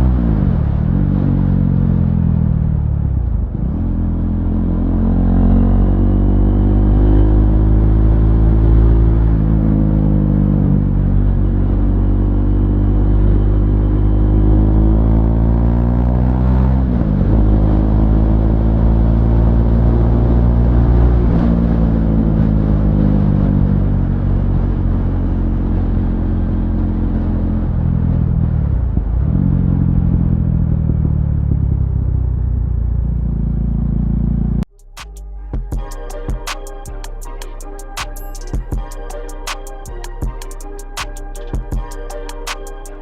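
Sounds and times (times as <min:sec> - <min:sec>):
motorcycle engine revving: 0:00.0 - 0:34.7.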